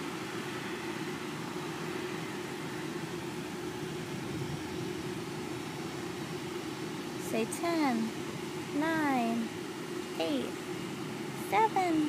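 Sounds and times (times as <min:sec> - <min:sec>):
distant jet engines rumbling: 0:00.0 - 0:12.0
faint constant hum: 0:00.0 - 0:12.0.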